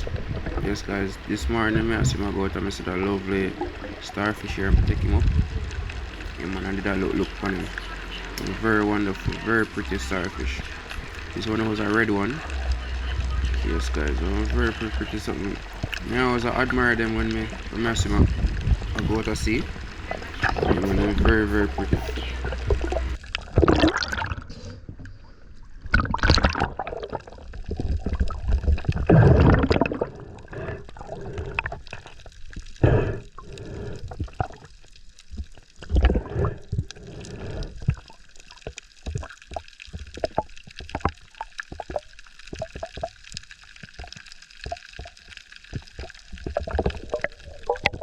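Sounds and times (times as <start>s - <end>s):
sharp clicks and crackles: 0.0s - 24.0s, 26.0s - 48.0s
underwater bubbling and gurgling: 0.0s - 48.0s.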